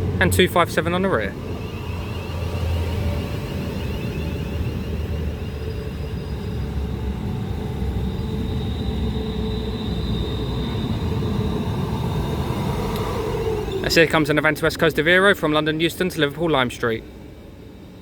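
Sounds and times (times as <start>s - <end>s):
faint high electric whine: 0.0s - 18.0s
train low rumble: 0.0s - 18.0s.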